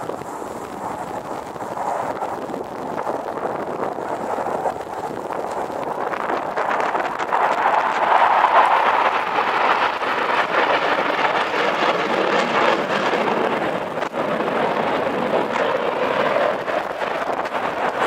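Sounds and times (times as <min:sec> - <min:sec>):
jet aircraft roar: 0:00.0 - 0:18.0.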